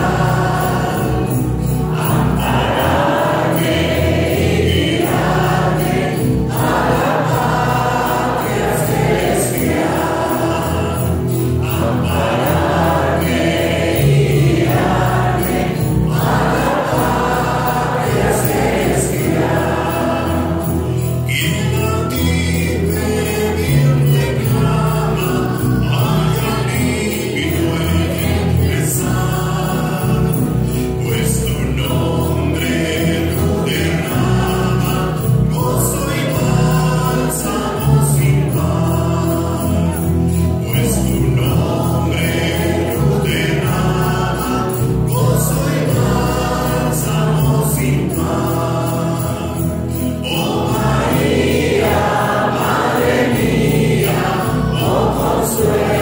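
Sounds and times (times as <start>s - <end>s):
choir singing: 0.0s - 56.0s
sustained instrumental bass: 0.0s - 56.0s.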